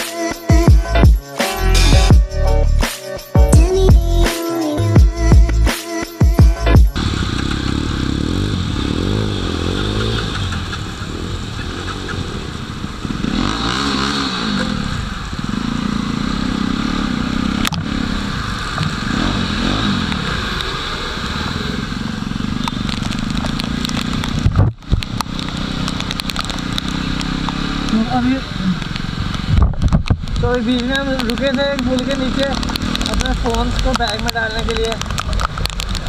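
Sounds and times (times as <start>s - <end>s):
wind and road noise: 0.0s - 36.0s
motorcycle engine running: 4.9s - 36.0s.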